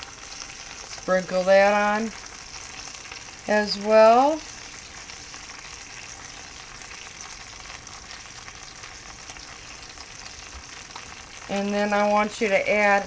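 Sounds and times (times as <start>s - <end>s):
meat and butter sizzling: 0.0s - 13.0s.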